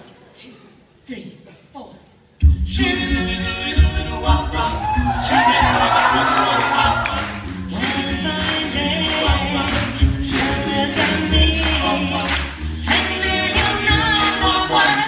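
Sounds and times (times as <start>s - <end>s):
a cappella group singing: 2.4s - 15.0s.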